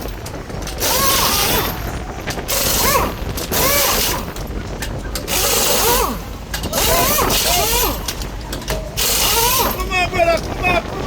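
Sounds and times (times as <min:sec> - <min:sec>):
impact wrenches rattling: 0:00.0 - 0:10.5.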